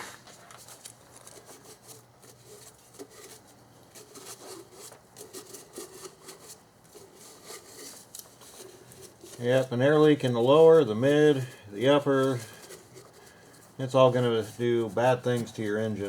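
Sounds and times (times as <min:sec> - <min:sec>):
cloth rubbing on metal: 0:00.0 - 0:16.0.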